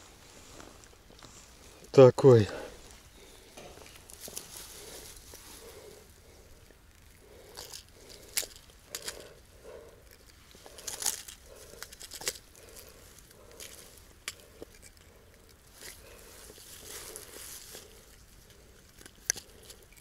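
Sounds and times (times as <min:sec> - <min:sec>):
dry grass rustling: 0:00.0 - 0:20.0.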